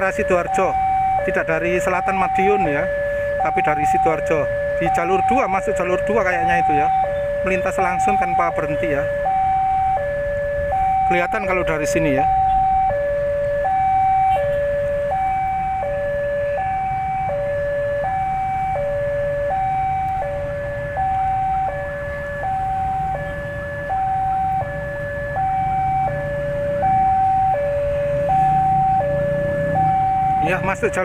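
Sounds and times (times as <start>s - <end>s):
level-crossing two-tone alarm: 0.0s - 31.0s.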